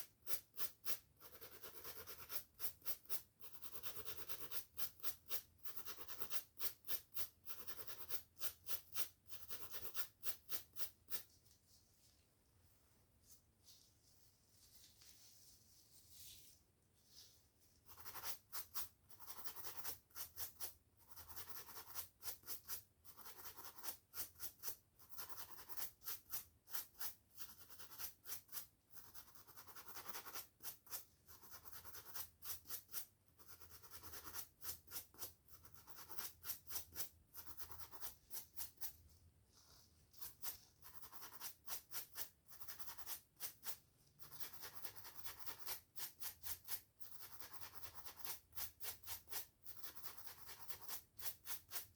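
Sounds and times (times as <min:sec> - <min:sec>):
scratchy strokes through hair: 0:00.3 - 0:12.2, 0:13.2 - 0:51.9.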